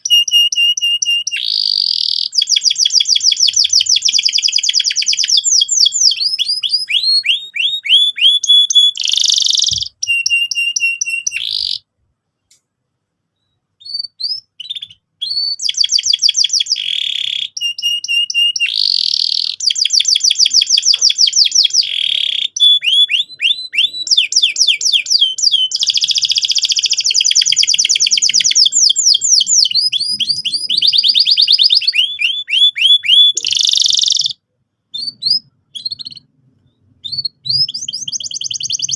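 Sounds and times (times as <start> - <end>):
canary trilling: 0.0 - 11.9, 13.8 - 38.9.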